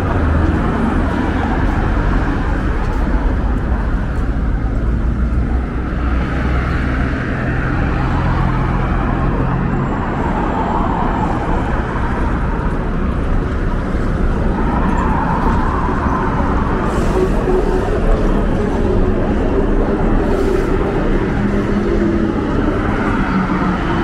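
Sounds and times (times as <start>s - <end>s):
cars driving past: 0.0s - 24.0s.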